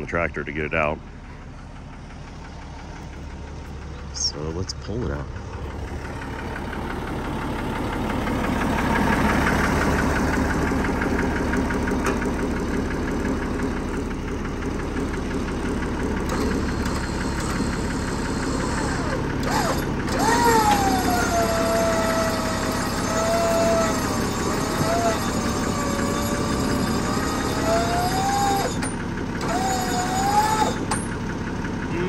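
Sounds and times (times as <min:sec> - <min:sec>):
diesel engine knocking: 0:00.0 - 0:32.0.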